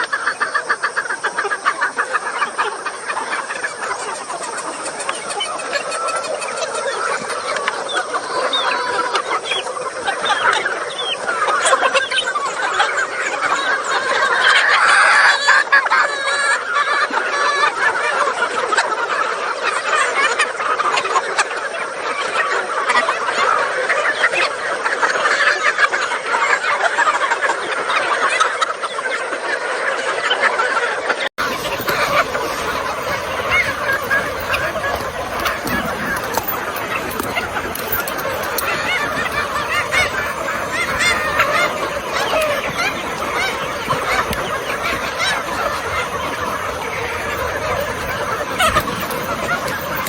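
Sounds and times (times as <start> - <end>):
chickens clucking: 0.0 - 50.0.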